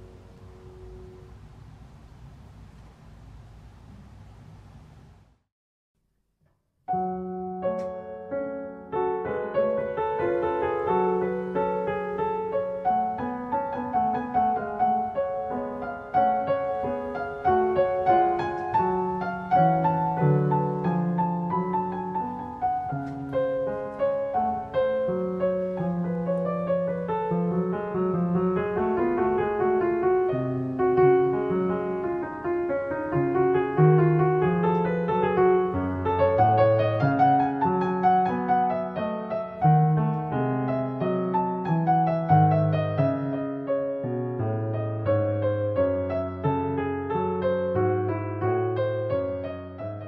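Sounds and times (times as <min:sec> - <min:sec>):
background piano music: 0:00.0 - 0:04.1, 0:06.8 - 0:50.0.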